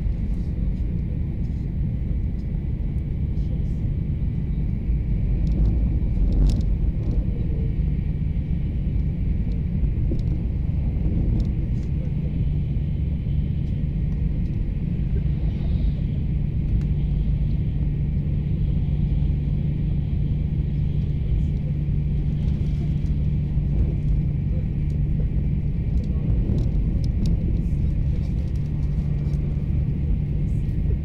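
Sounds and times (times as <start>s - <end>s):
train interior rumble: 0.0s - 31.0s.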